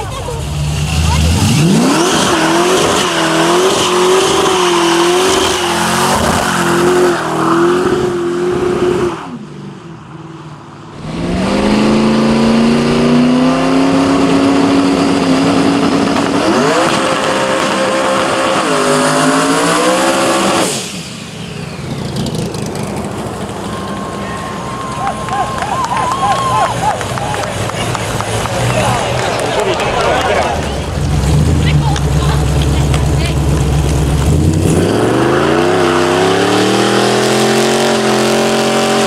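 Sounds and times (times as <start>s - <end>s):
engine revving: 0.0s - 9.5s, 10.9s - 39.0s.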